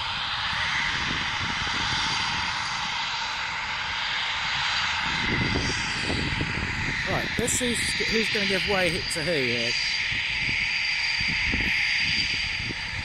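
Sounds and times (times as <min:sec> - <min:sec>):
jet engine hiss: 0:00.0 - 0:13.0.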